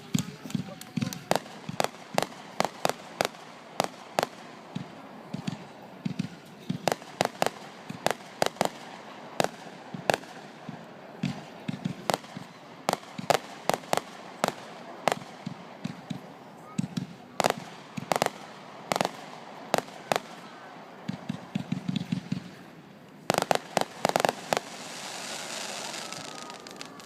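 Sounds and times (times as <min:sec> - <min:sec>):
fireworks banging: 0:00.0 - 0:27.0.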